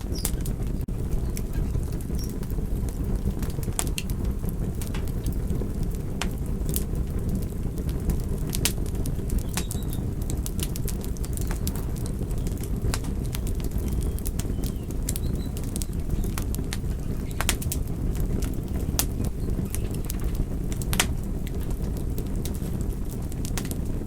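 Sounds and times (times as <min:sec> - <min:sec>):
campfire crackling and popping: 0:00.0 - 0:24.0
low fire rumble: 0:00.0 - 0:24.0.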